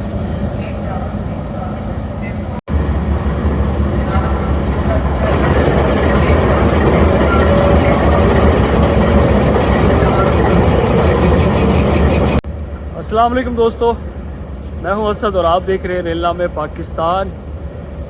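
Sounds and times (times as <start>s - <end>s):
diesel locomotive idling: 0.0s - 18.0s.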